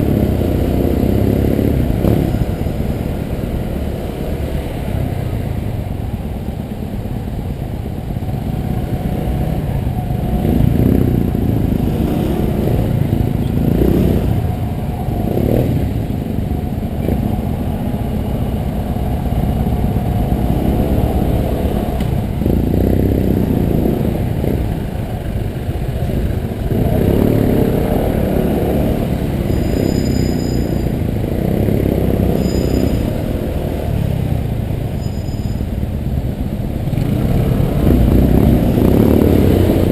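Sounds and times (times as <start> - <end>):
low wind rumble: 0.0 - 39.9.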